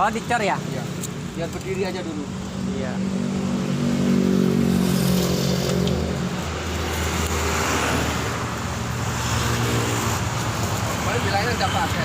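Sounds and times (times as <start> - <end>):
vehicle engine humming: 0.0 - 12.0
vehicle passing: 0.3 - 12.0.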